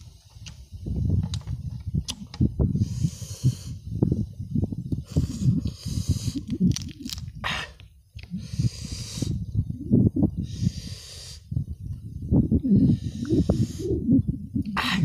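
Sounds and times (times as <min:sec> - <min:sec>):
hissing breaths through mouth: 0:02.6 - 0:15.0.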